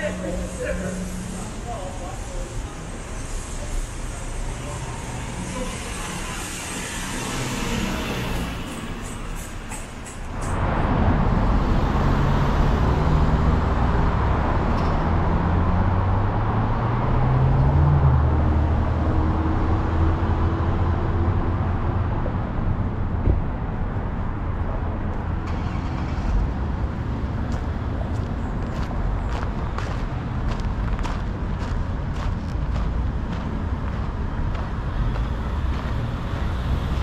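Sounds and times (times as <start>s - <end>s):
vehicle engine accelerating: 0.0s - 9.5s, 10.3s - 22.4s, 25.2s - 37.0s
traffic rumble: 0.0s - 37.0s.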